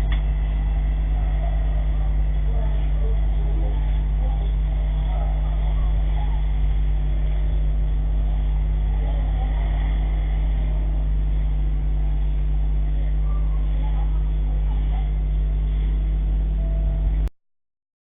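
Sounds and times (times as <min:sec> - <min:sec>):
low engine drone: 0:00.0 - 0:17.3.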